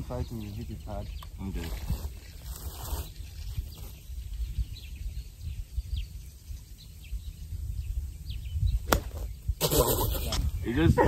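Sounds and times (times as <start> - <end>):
faint bird chirps: 0.0 - 11.0
wind rumbling on microphone: 0.0 - 11.0.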